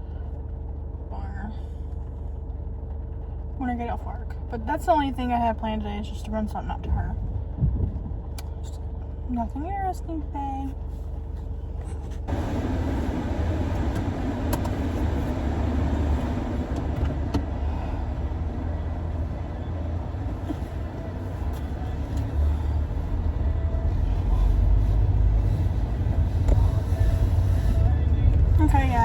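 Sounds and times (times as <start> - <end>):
engine and road rumble: 0.0 - 29.0.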